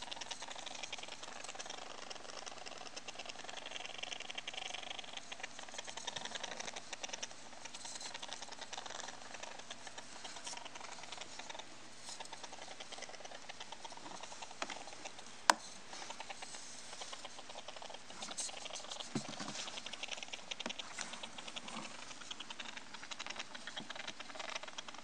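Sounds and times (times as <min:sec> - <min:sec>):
hamster clicking: 0:00.0 - 0:16.4, 0:17.0 - 0:25.0.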